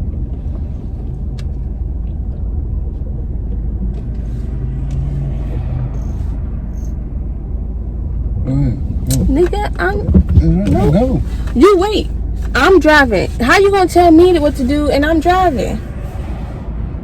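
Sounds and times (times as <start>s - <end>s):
car engine rumble and road noise: 0.0s - 17.0s.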